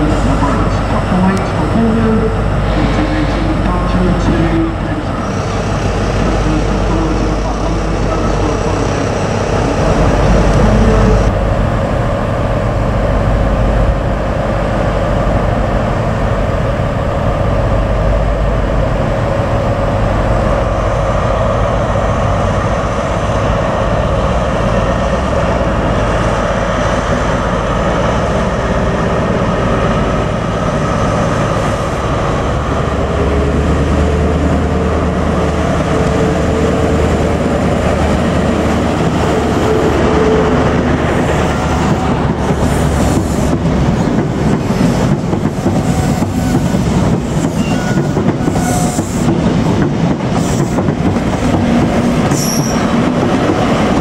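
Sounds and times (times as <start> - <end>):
diesel train engine rumble: 0.0 - 54.0.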